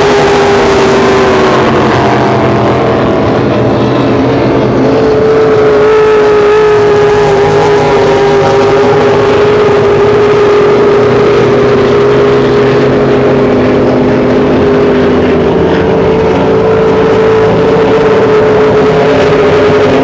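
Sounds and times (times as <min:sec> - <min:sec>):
speedboat engine passing: 0:00.0 - 0:20.0.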